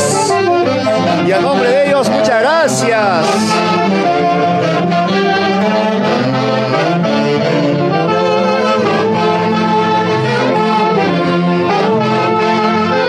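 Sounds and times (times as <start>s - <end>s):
live band with saxophones: 0.0s - 13.0s.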